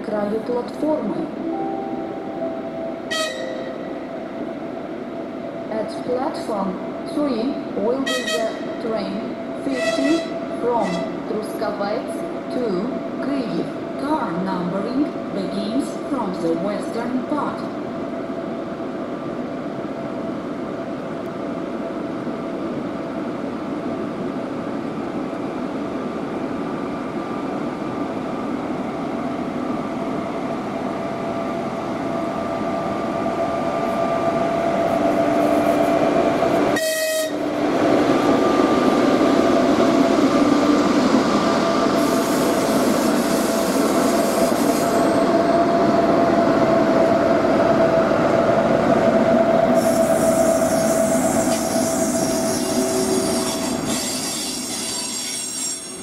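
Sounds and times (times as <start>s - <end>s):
train rumbling and whining: 0.0s - 56.0s.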